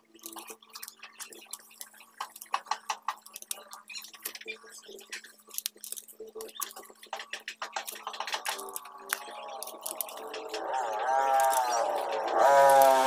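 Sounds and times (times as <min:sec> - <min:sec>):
grip tape crackling: 0:00.0 - 0:13.0.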